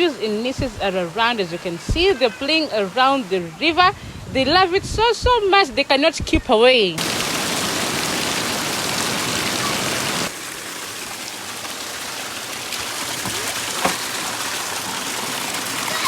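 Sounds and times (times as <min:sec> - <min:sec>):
river water rushing: 0:00.0 - 0:03.9, 0:07.0 - 0:16.0.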